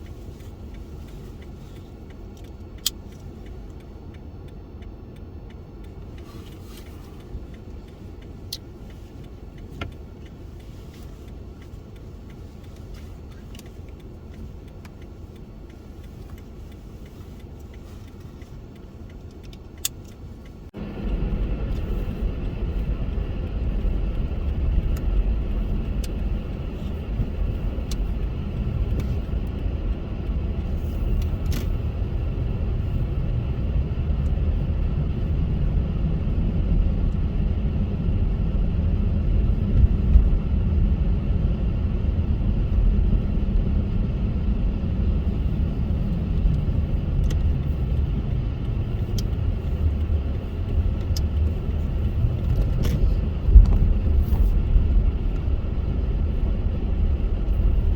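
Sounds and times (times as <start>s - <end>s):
car road noise rumble: 0.0s - 57.9s
light ticks and rattles: 0.0s - 57.9s.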